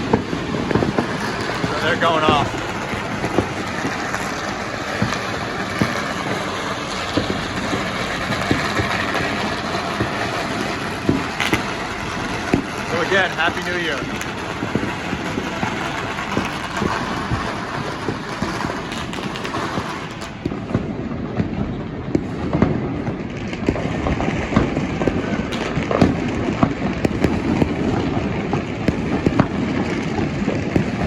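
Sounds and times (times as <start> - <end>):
firecrackers crackling: 0.0 - 31.0
fireworks bangs: 0.0 - 31.0.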